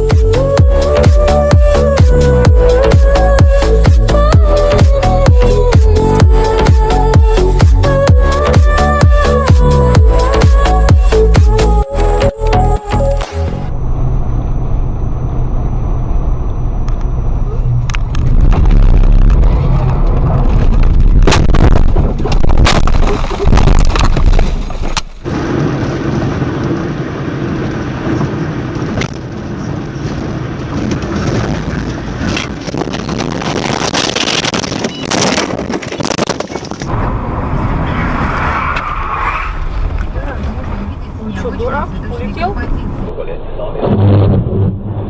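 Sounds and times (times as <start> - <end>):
road and engine rumble: 0.0 - 45.0.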